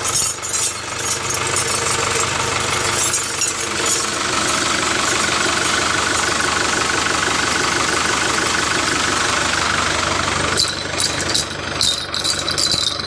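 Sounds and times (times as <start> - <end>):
small electric motor rattling: 0.0 - 9.9, 10.5 - 13.0.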